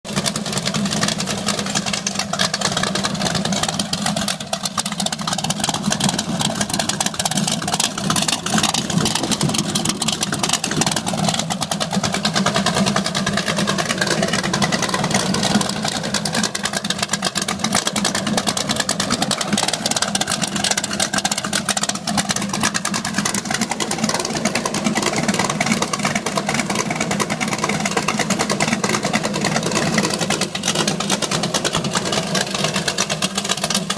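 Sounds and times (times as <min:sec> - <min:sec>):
vehicle engine idling: 0:00.0 - 0:33.9.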